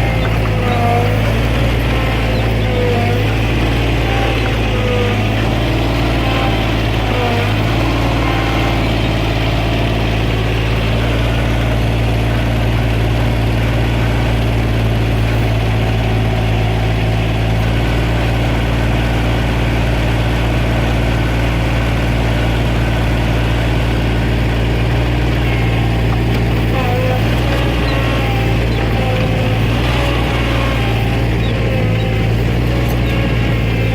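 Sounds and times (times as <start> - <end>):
machine engine running steadily: 0.0 - 33.9.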